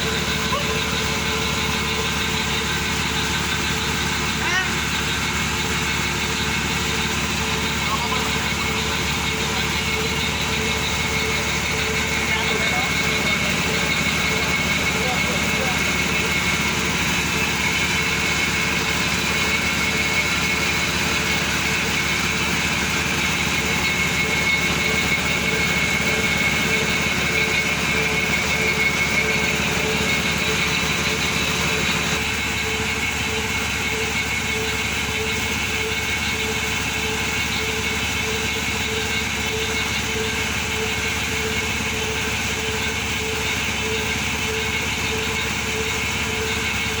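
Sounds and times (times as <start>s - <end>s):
drilling rig machine drone: 0.0s - 47.0s.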